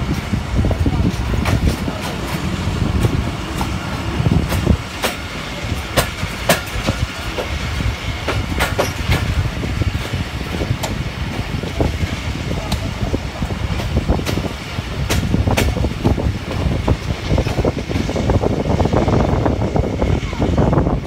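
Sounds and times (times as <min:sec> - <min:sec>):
train running gear rumbling: 0:00.0 - 0:21.0
wheels clicking over rail joints: 0:00.0 - 0:21.0.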